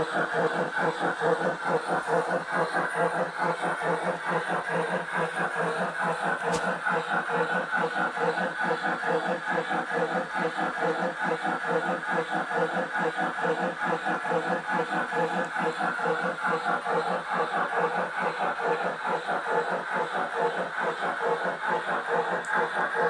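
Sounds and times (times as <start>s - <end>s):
steam chuffing through loudspeaker: 0.0s - 23.0s.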